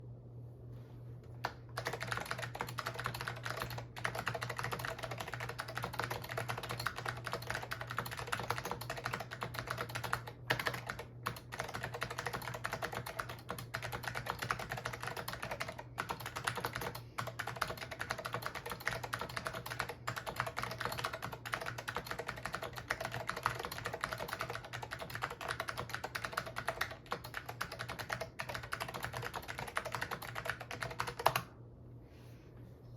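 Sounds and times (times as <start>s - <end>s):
steady low hum: 0.0s - 32.9s
clicky keyboard typing: 1.4s - 31.5s.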